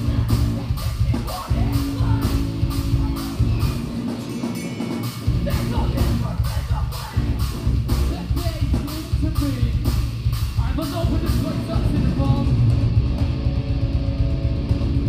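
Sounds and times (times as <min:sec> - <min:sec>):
drum kit beat: 0:00.0 - 0:15.0
rock band playing live: 0:00.0 - 0:15.0.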